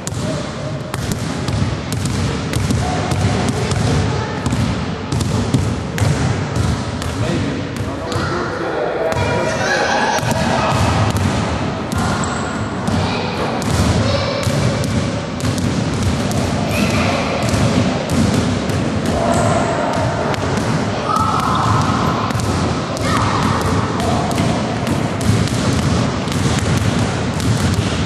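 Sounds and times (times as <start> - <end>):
basketballs bouncing on wooden floor: 0.0 - 8.3, 10.1 - 28.0.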